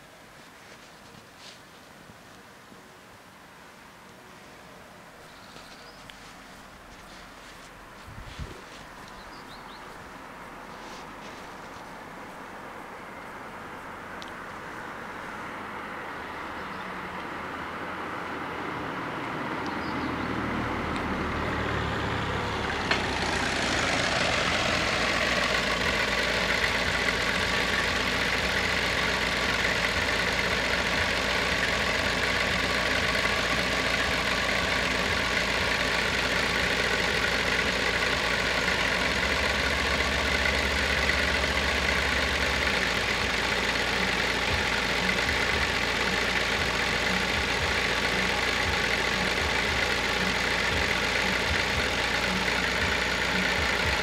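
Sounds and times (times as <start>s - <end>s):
engine idling: 5.3s - 54.0s.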